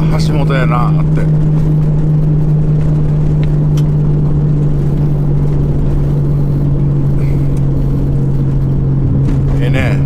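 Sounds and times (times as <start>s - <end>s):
car engine drone: 0.0s - 10.0s
low road rumble: 0.0s - 10.0s.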